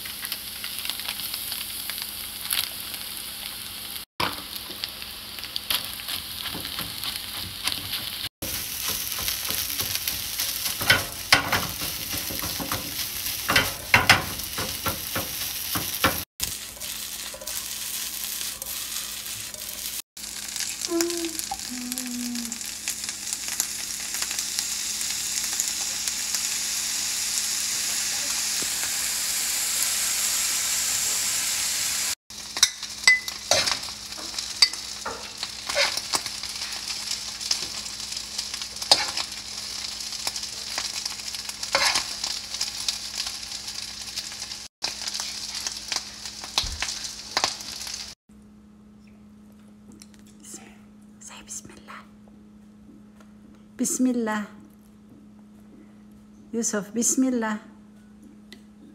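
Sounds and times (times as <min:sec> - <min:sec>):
fried rice sizzling in a frying pan: 0:00.0 - 0:48.2.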